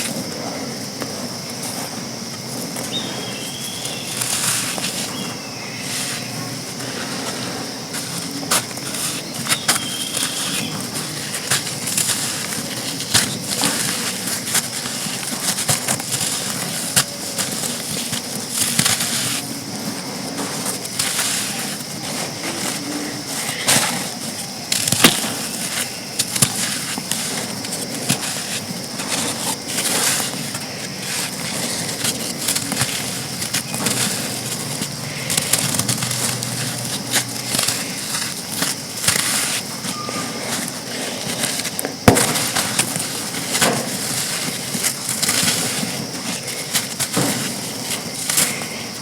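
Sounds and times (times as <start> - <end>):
sand chunks crunching: 0.0 - 49.0.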